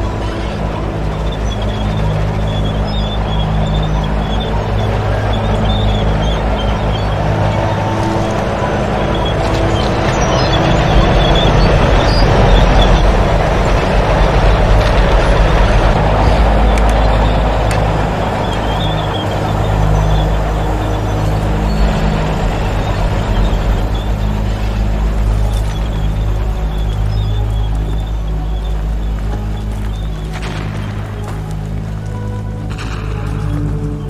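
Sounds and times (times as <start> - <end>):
heavy machine engine rumble: 0.0 - 34.0.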